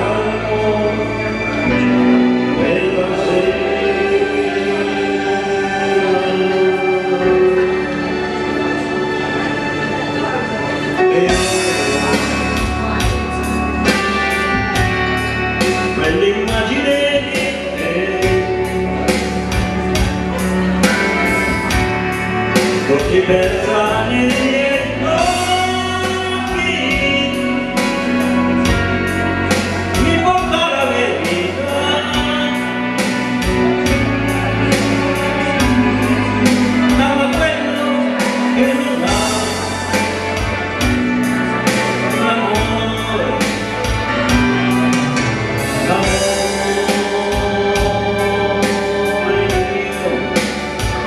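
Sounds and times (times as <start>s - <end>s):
man singing into a microphone: 0.0s - 8.6s, 10.9s - 51.0s
karaoke backing track with beat: 0.0s - 51.0s.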